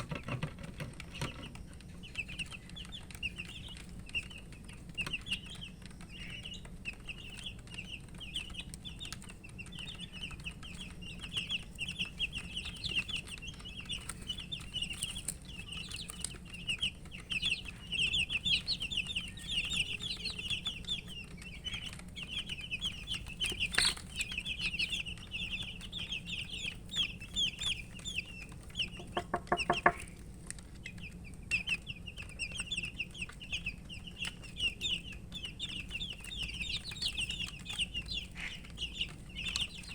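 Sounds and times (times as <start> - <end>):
baby chicks chirping: 0.0 - 39.9.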